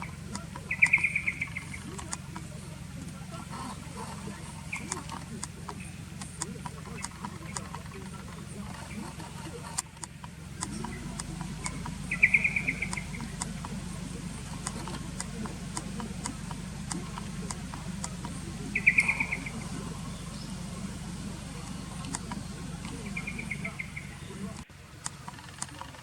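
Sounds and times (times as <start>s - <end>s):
bird trills: 0.0s - 24.6s
faint ticks: 0.0s - 26.0s
steady low hum: 0.0s - 26.0s.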